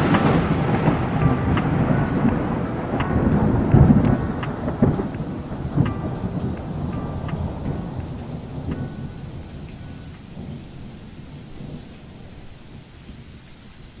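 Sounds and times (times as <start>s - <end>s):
rolling thunder rumble: 0.0s - 13.4s
steady rain hiss: 0.0s - 14.0s.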